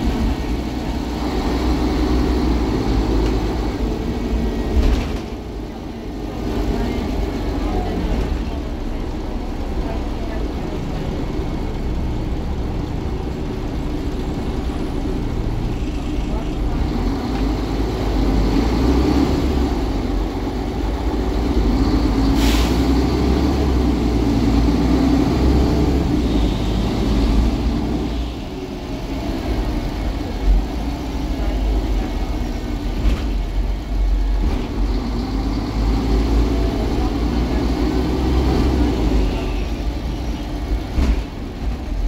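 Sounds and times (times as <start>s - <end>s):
bus diesel engine running: 0.0s - 42.0s
road rumble: 0.0s - 42.0s.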